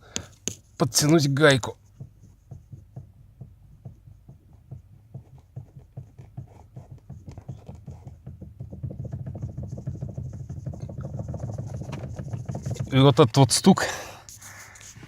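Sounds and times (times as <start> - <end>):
steering shaft knocking: 0.1 - 13.4.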